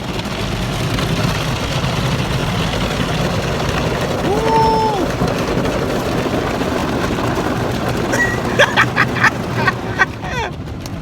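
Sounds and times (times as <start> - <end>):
water spraying on car: 0.0 - 11.0.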